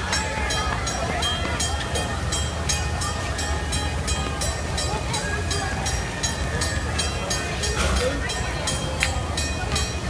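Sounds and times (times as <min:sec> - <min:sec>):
steam locomotive chuffing: 0:00.0 - 0:10.0.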